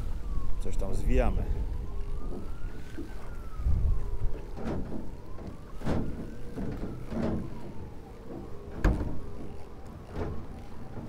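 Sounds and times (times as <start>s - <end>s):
distant emergency siren wailing: 0.0s - 11.0s.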